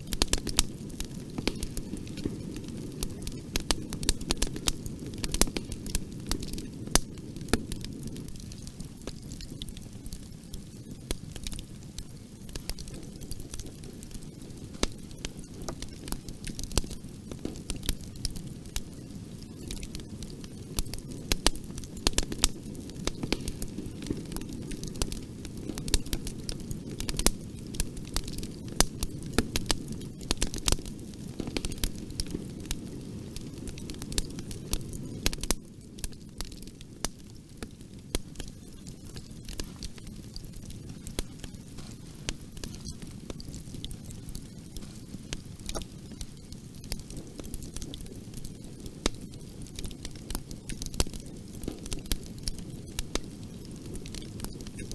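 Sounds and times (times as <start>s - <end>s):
fireplace fire crackling: 0.0s - 54.9s.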